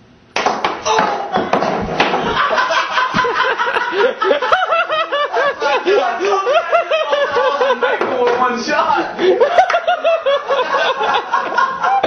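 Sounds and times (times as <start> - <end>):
person laughing hard: 0.9 - 8.0, 9.1 - 12.0.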